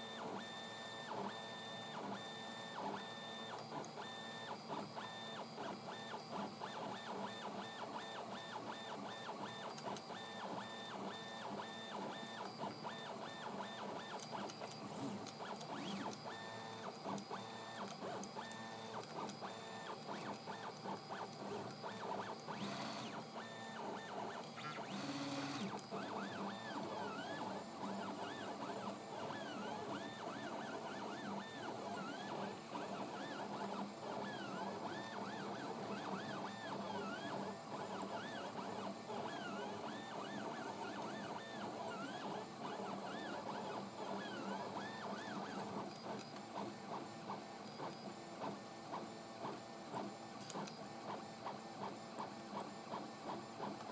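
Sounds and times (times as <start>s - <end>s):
printer stepper motors whining: 0.0s - 53.9s.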